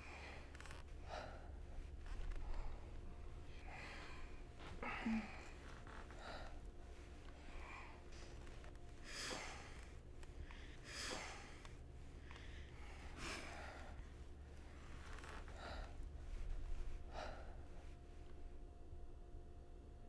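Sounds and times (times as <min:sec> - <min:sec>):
person breathing: 0:00.0 - 0:18.4
faint low hum: 0:00.0 - 0:20.0.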